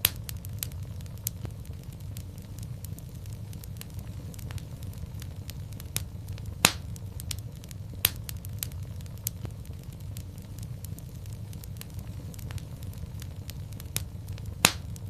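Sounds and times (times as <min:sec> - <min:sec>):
fire crackling: 0:00.0 - 0:15.0
loud pop of fire: 0:00.0 - 0:15.0.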